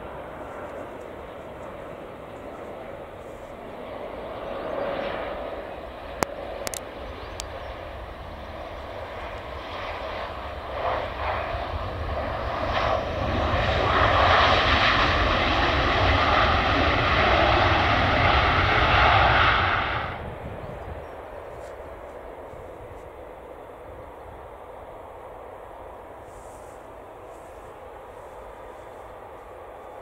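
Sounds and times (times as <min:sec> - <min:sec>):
jet engines during landing: 0:00.0 - 0:30.0.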